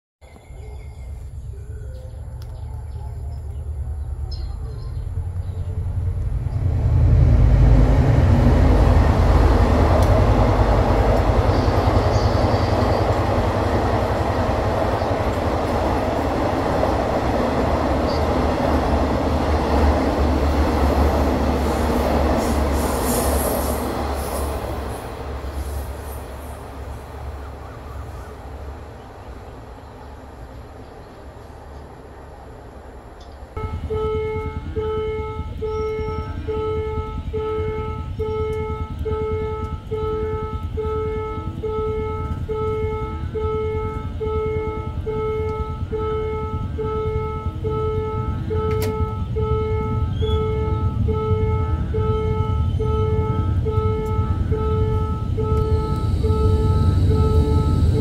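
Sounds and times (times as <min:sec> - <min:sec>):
train wheels rumbling: 0:00.6 - 0:58.0
diesel engine drone: 0:01.1 - 0:58.0.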